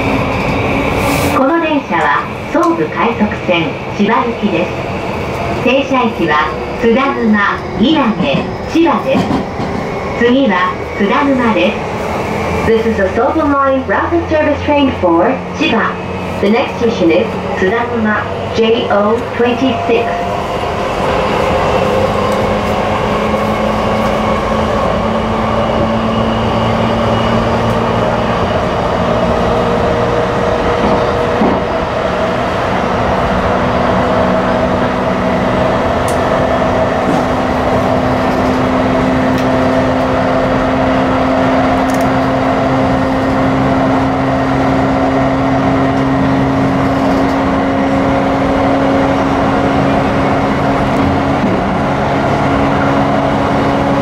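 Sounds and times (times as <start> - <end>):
train motors humming: 0.0 - 54.0
wheel and rail rumble: 0.0 - 54.0.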